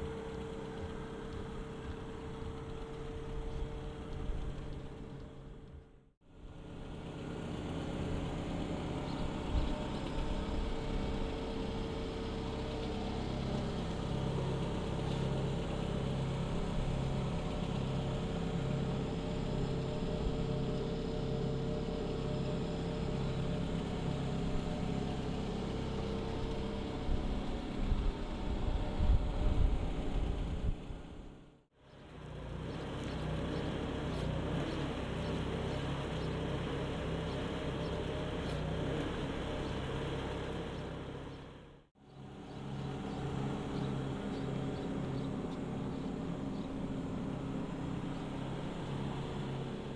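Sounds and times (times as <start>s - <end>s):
forklift engine idling: 0.0s - 29.1s, 31.9s - 49.9s.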